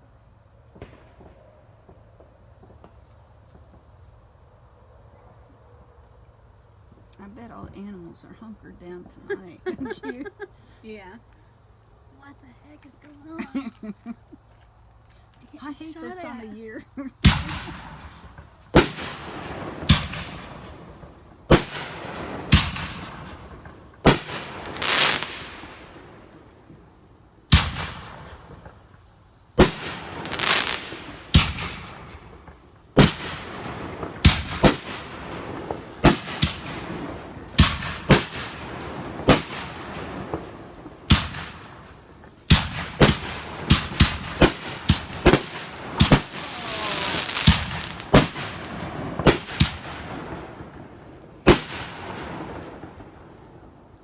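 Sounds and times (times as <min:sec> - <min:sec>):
fireworks bangs: 0:00.0 - 0:04.6, 0:06.9 - 0:14.6, 0:15.2 - 0:26.9, 0:27.5 - 0:54.0
fizzing fireworks crackle: 0:00.0 - 0:54.0.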